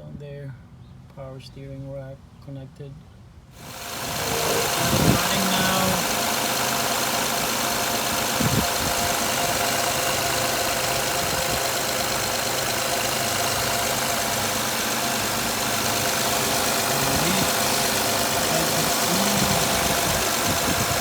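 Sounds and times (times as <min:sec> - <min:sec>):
car engine idling: 0:03.6 - 0:21.0.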